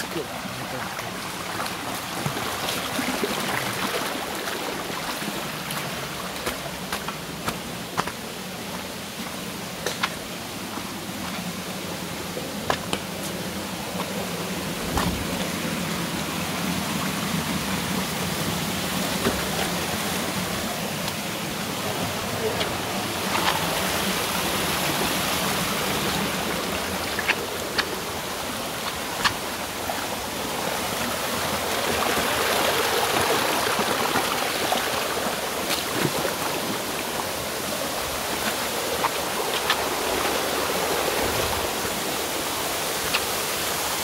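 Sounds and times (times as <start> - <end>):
stream rushing over stones: 0.0 - 44.0.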